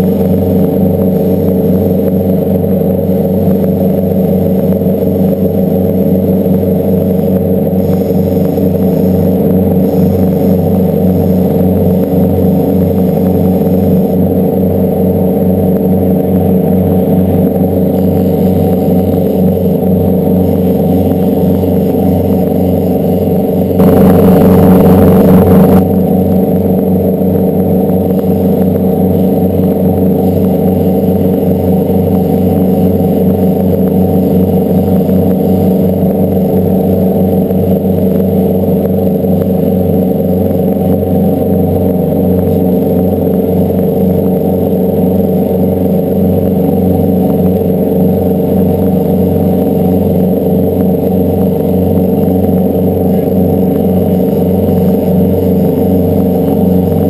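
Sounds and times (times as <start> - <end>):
boat engines droning: 0.0 - 57.0.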